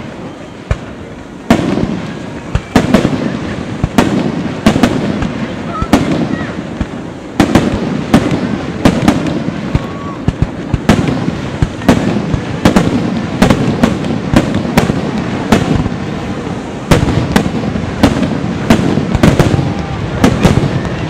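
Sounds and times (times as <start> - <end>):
firework shells bursting: 0.7 - 21.0.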